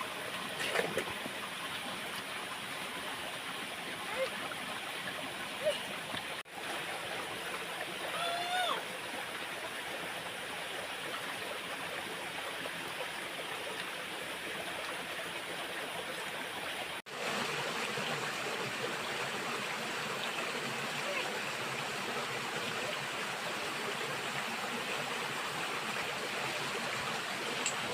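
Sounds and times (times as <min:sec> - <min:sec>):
stream water rushing: 0:00.0 - 0:27.9.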